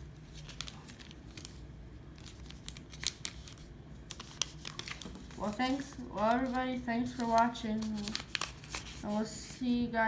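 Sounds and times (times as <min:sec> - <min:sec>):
paper crinkling: 0:00.1 - 0:09.4.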